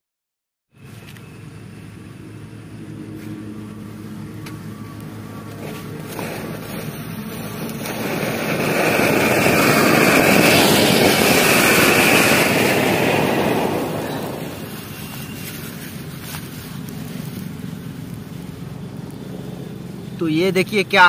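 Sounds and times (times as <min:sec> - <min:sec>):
firework fountain hissing: 0:01.5 - 0:20.7.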